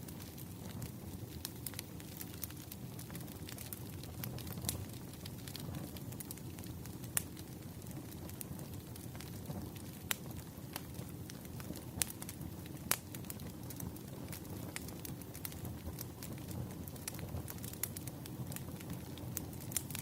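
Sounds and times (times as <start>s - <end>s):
bonfire crackling: 0.0s - 20.0s
burning wood popping and snapping: 0.1s - 20.0s.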